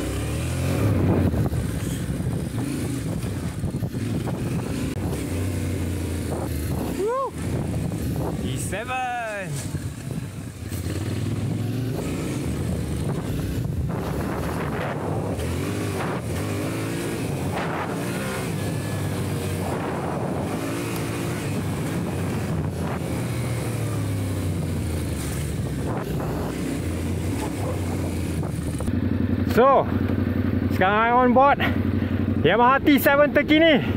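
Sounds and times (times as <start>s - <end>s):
wind noise on microphone: 0.0s - 8.8s, 9.7s - 28.9s
motorcycle engine revving: 0.0s - 33.9s.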